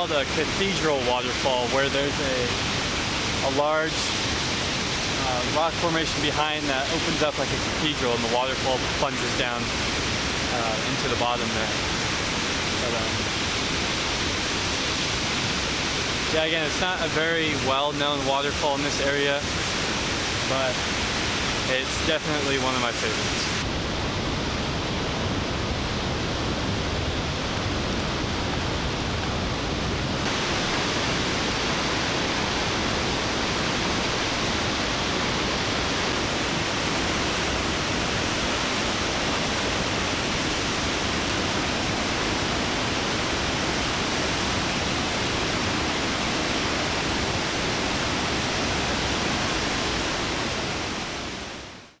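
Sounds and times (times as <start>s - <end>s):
waterfall rushing: 0.0s - 51.8s.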